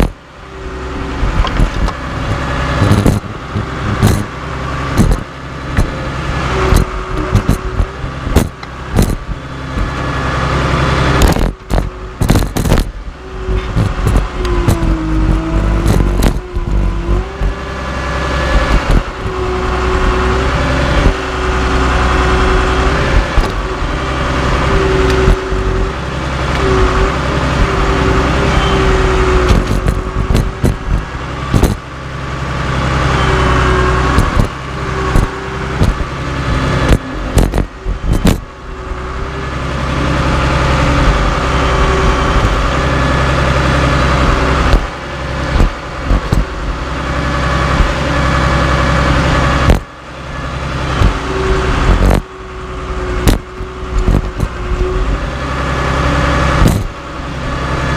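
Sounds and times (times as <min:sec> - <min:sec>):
bulldozer diesel engine: 0:00.0 - 0:57.9
steady whine: 0:00.0 - 0:57.9.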